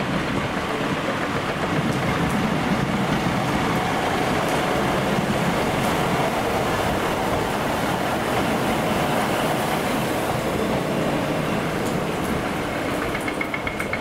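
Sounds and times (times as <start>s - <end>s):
diesel train engines rumbling: 0.0s - 14.0s
train wheels on rails: 0.0s - 14.0s.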